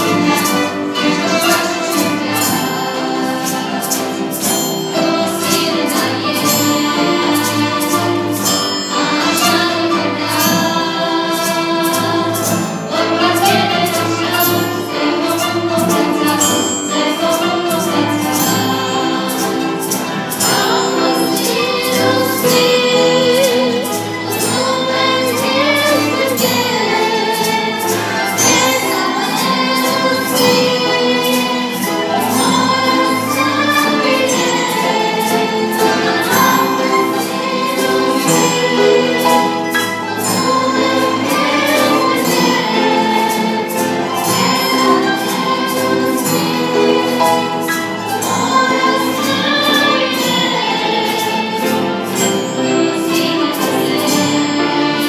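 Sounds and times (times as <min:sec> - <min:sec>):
ensemble playing qanuns guitars piano: 0:00.0 - 0:55.0
girls singing: 0:00.0 - 0:55.0
triangle beat: 0:00.0 - 0:55.0.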